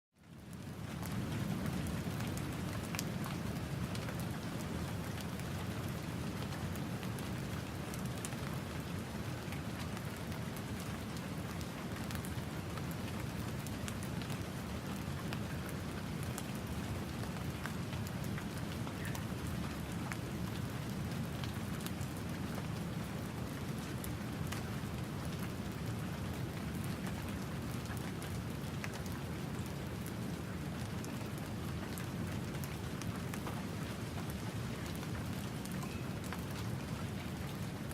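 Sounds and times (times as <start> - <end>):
light rain pattering: 0.2 - 37.9.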